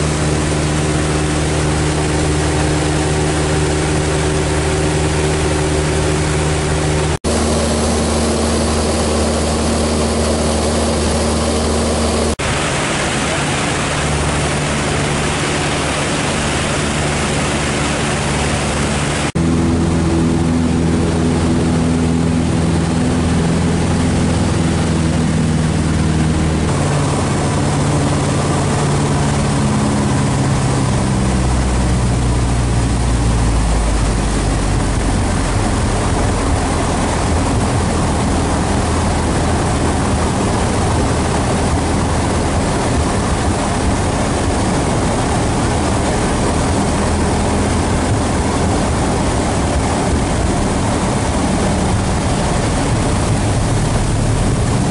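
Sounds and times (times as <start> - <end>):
plane engine and propeller drone: 0.0 - 54.9.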